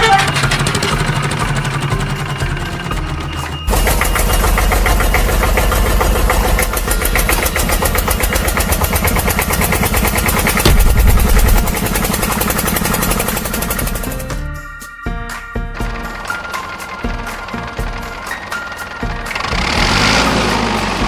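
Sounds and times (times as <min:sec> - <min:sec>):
engine chugging: 0:00.0 - 0:21.0.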